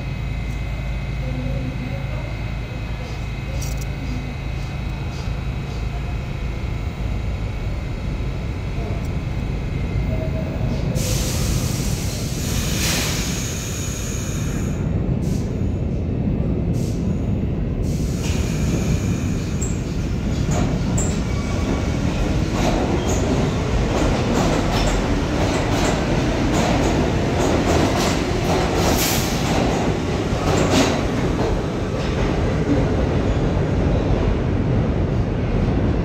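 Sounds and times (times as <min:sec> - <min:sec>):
subway train rumble: 0:00.0 - 0:36.0.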